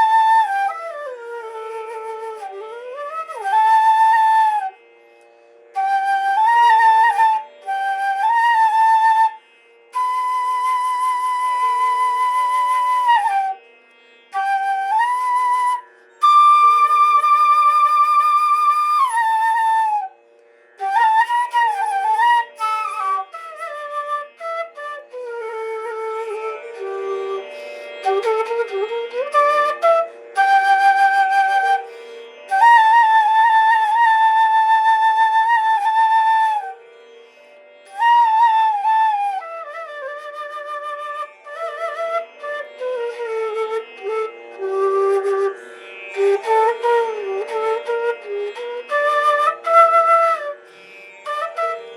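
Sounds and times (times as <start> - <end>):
flute melody: 0.0 - 4.9, 5.7 - 20.2, 20.8 - 36.9, 37.9 - 51.9.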